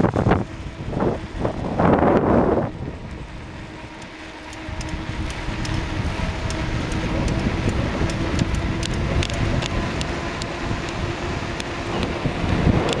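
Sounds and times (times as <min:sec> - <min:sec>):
car tyre and engine noise: 0:00.0 - 0:13.0.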